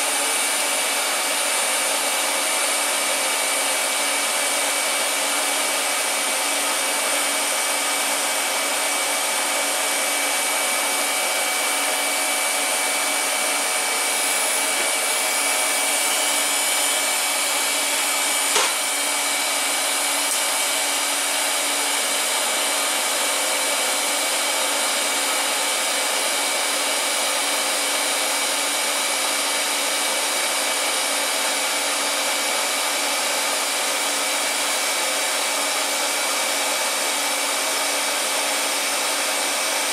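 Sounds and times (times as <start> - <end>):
blower hiss: 0.0 - 39.9.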